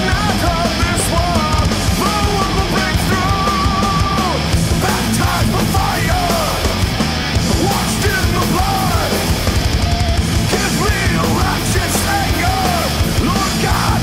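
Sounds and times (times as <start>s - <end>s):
heavy rock band playing: 0.0s - 14.0s.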